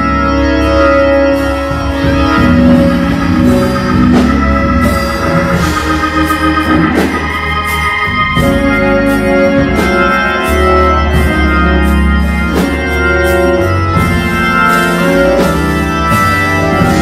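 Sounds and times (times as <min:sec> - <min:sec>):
organ playing gospel music: 0:00.0 - 0:17.0.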